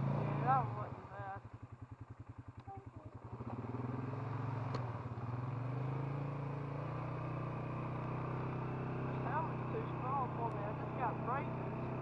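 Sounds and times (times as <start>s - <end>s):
four-wheeler engine pulling away: 0.0s - 12.0s.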